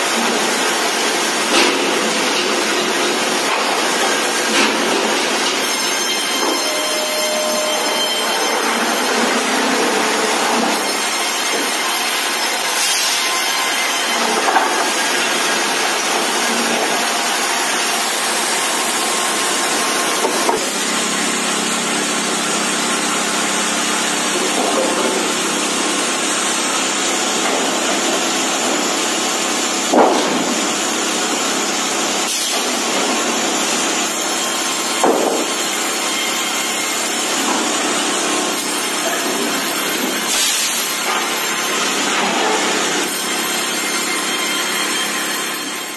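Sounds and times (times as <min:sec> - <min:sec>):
saws and roller conveyors: 0:00.0 - 0:45.9.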